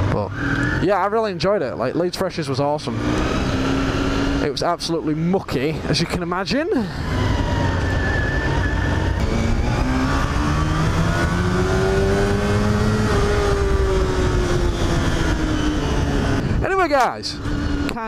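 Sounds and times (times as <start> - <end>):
motorcycle engine accelerating: 0.0 - 18.0
road and wind noise: 0.0 - 18.0.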